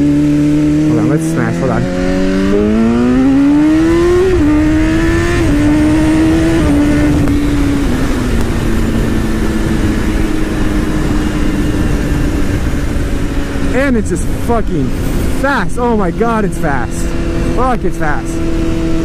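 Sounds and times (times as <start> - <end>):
heavy wind noise: 0.0 - 19.0
motorcycle engine accelerating: 0.0 - 19.0.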